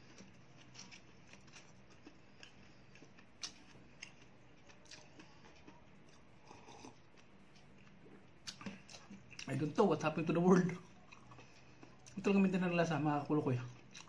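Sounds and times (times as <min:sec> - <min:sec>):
person chewing: 0:00.0 - 0:09.6, 0:10.5 - 0:12.2, 0:13.7 - 0:14.0
low steady hum: 0:00.0 - 0:14.0.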